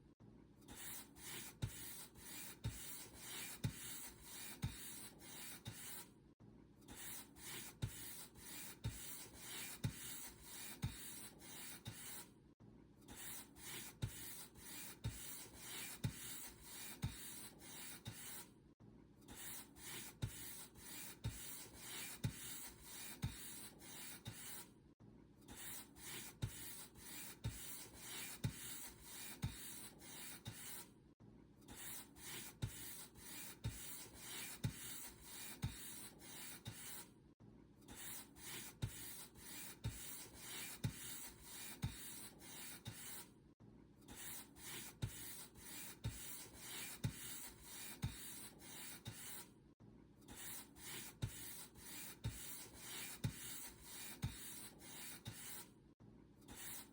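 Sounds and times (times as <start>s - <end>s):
paint brush scratching a surface: 0.7s - 6.1s, 6.9s - 12.3s, 13.1s - 18.5s, 19.3s - 24.7s, 25.5s - 30.9s, 31.7s - 37.1s, 37.9s - 43.3s, 44.1s - 49.5s, 50.3s - 55.7s, 56.5s - 56.9s.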